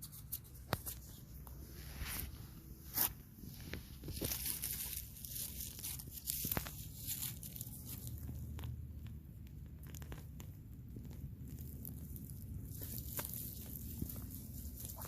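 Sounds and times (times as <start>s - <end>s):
soil crunching and tearing: 2.9s - 15.0s.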